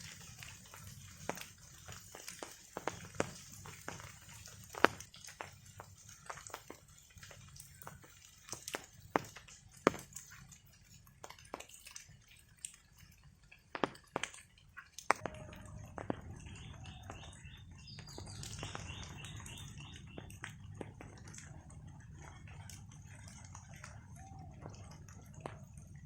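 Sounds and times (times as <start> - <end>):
falling rain: 0.0 - 26.0
rain drips on hard surfaces: 0.0 - 26.0.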